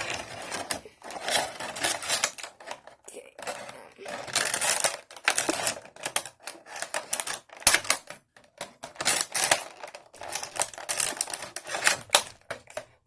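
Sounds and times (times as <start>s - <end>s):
plastic packaging crackling: 0.0s - 8.0s, 8.8s - 12.9s.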